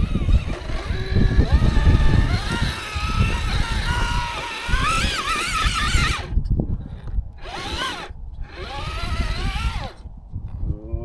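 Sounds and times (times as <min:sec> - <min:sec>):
rc car electric motor whine: 0:00.0 - 0:10.0.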